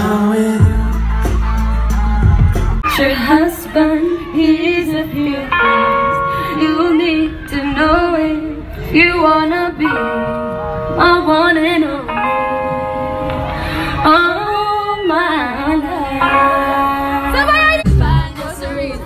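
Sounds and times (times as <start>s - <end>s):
instrumental backing music: 0.0s - 19.0s
woman singing into microphone: 2.8s - 19.0s.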